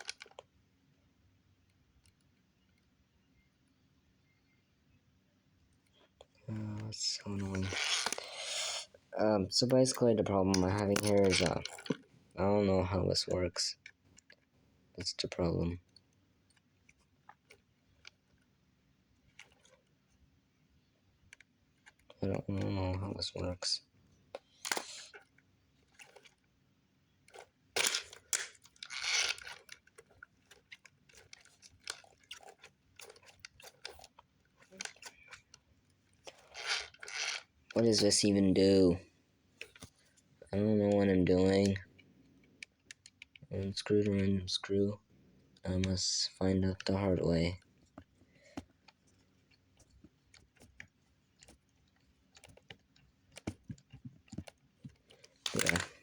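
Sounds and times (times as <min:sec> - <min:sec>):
plastic parts scraping and clacking: 0:00.0 - 0:00.5, 0:05.8 - 0:20.3, 0:21.2 - 0:39.0, 0:39.6 - 0:44.9, 0:45.5 - 0:56.0
small plastic clicks: 0:00.0 - 0:00.6, 0:05.8 - 0:08.9, 0:09.6 - 0:12.1, 0:13.4 - 0:20.4, 0:21.0 - 0:38.3, 0:39.6 - 0:44.8, 0:45.5 - 0:56.0.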